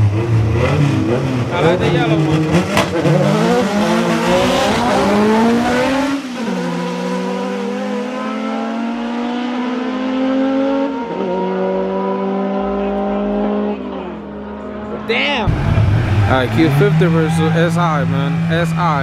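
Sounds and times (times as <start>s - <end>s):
racing car engine accelerating: 0.0s - 19.0s.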